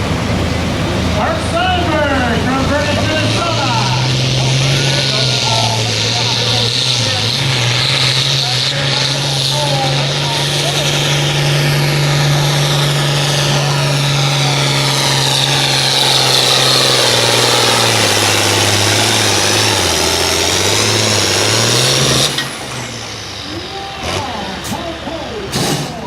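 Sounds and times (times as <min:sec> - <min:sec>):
tractor engine wailing under load: 0:00.0 - 0:26.0.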